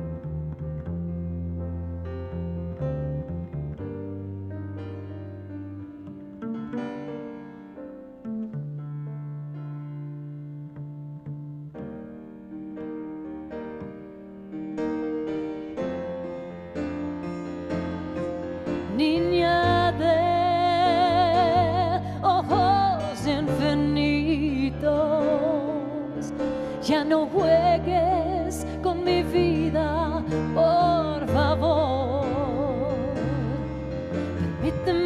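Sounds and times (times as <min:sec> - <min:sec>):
bass line: 0:00.0 - 0:35.0
piano: 0:00.0 - 0:35.0
sustained melody with vibrato: 0:00.0 - 0:35.0.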